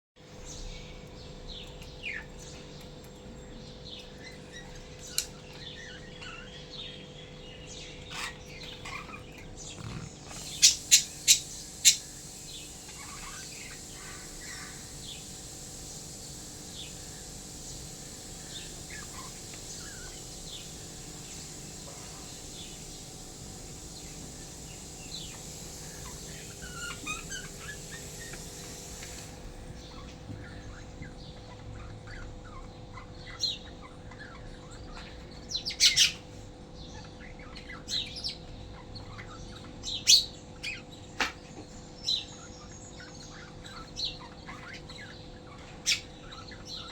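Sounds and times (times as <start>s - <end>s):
lovebirds chirping: 0.4s - 46.9s.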